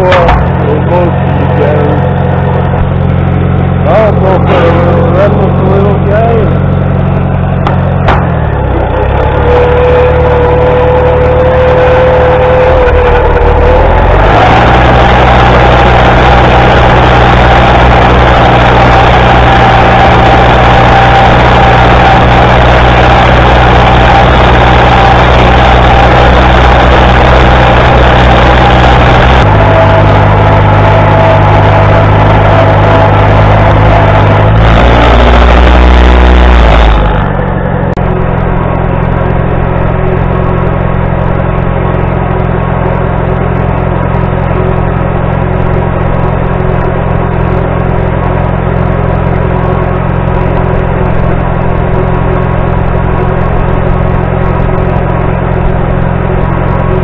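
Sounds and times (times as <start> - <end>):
high steady whine: 0.0 - 57.0
tractor engine running: 0.0 - 57.0.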